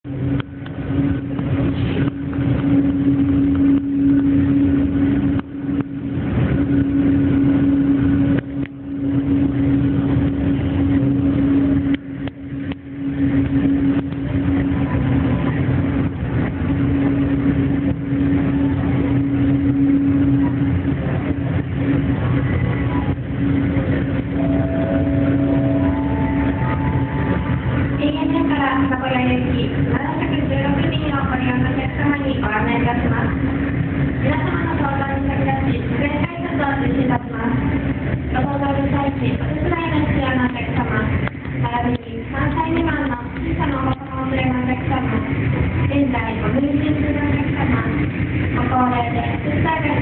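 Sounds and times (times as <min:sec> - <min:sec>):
aircraft engine drone: 0:00.0 - 0:50.0.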